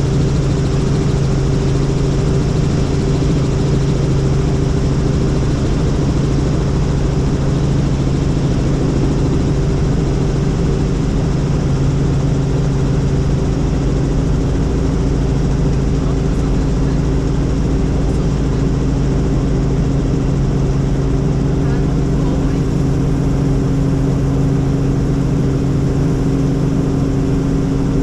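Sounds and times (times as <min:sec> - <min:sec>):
helicopter rotor drone: 0:00.0 - 0:28.0.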